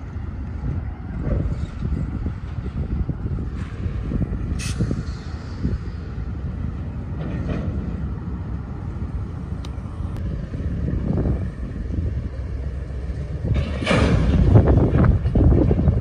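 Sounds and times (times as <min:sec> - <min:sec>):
freight train wheels rumbling: 0:00.0 - 0:16.0
train clanking and knocking: 0:00.0 - 0:16.0.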